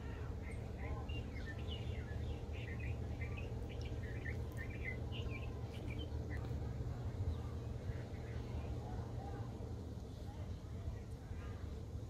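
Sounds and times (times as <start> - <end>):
small birds chirping: 0.0 - 11.8
steady low rumble: 0.0 - 12.0.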